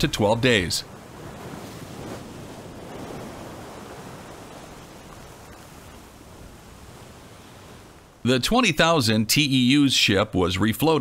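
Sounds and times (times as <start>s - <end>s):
wind and sea rushing: 0.0s - 11.0s.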